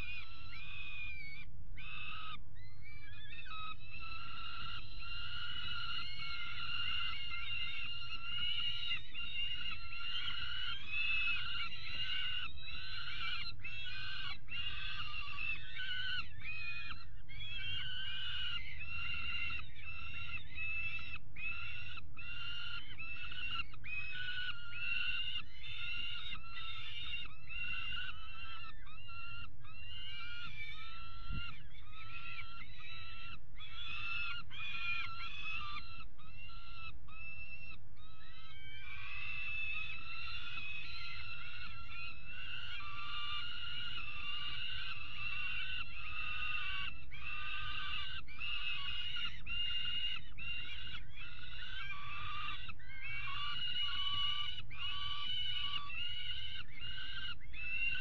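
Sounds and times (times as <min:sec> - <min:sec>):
young falcon harsh begging calls: 0:00.0 - 0:58.0.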